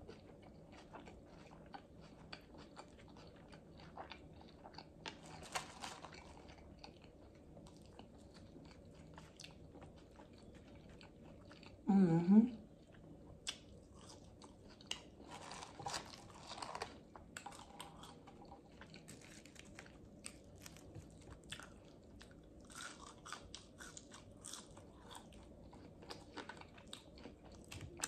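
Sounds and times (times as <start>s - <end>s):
wet chewing: 0.0s - 11.8s, 12.8s - 28.0s.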